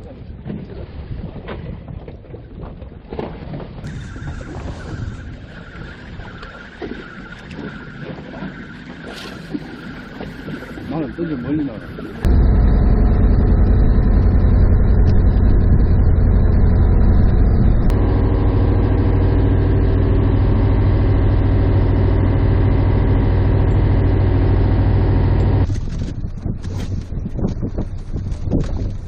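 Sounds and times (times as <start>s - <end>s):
boat engine humming: 3.8s - 29.0s.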